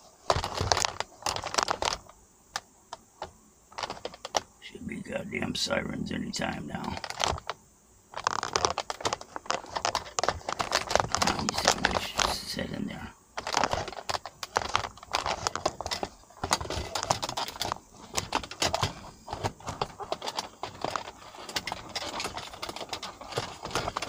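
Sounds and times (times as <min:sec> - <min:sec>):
handling noise rustling and clicking: 0:00.0 - 0:04.6, 0:06.5 - 0:24.0.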